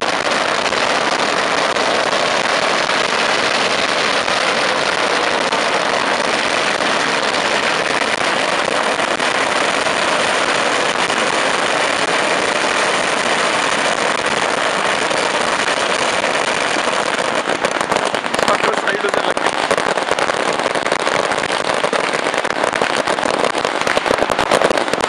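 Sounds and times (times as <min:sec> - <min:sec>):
firecracker string exploding: 0:00.0 - 0:25.0.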